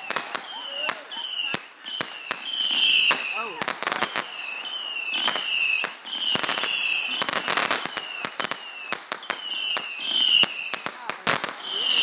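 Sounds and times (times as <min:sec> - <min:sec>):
firework whistles: 0:00.0 - 0:10.8, 0:11.5 - 0:12.0
fireworks cracking and popping: 0:00.0 - 0:12.0.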